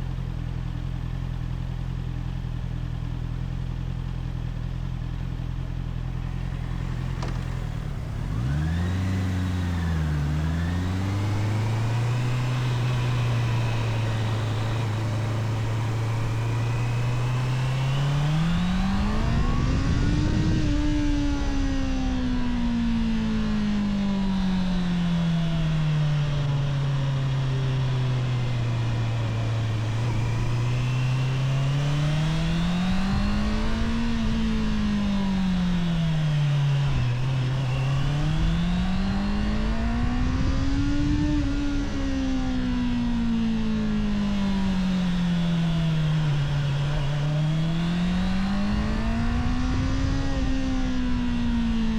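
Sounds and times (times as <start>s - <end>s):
motorcycle engine revving: 4.8s - 51.9s.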